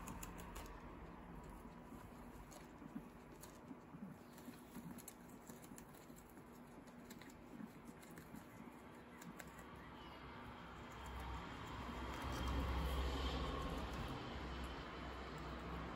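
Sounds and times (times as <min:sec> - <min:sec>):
guinea pigs crunching lettuce: 0:00.0 - 0:15.9.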